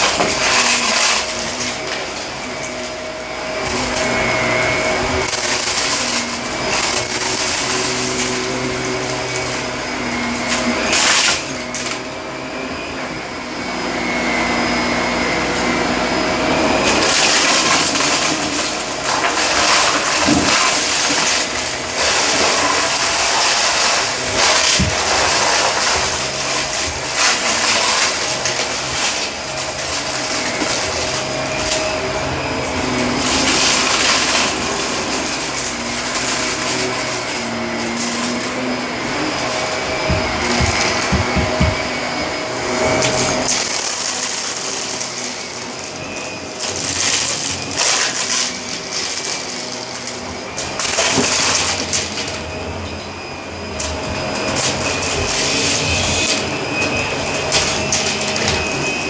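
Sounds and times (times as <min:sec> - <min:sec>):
debris crackling up hose: 0:00.0 - 0:12.2, 0:16.6 - 0:52.6, 0:53.8 - 0:59.0
vacuum cleaner motor humming: 0:00.0 - 0:59.0.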